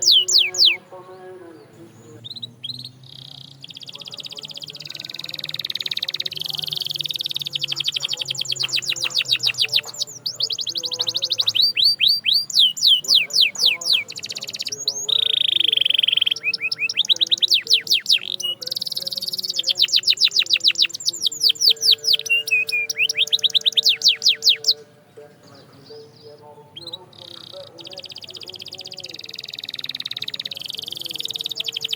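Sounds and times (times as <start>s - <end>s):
canary singing trills: 0.0s - 31.9s.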